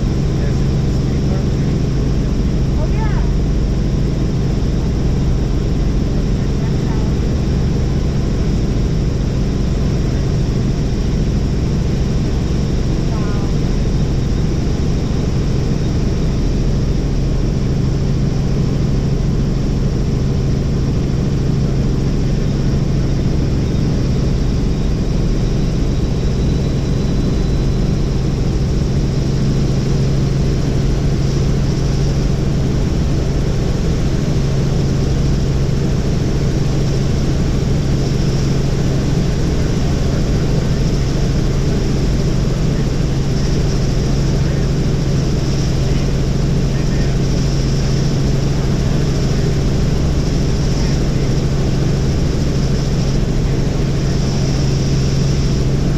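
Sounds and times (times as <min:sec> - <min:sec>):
helicopter engine and rotor drone: 0:00.0 - 0:55.9.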